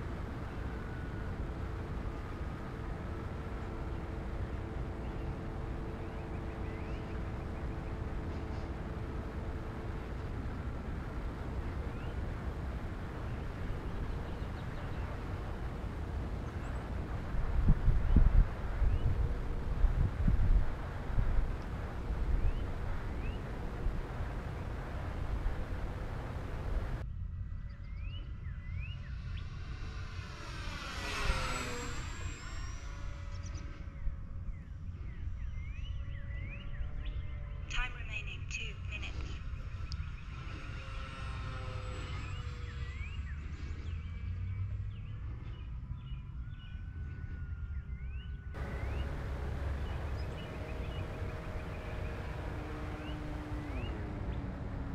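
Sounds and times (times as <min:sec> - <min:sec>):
electric motor drone: 0:00.0 - 0:27.0, 0:28.3 - 0:37.7, 0:39.4 - 0:47.8, 0:48.6 - 0:54.9.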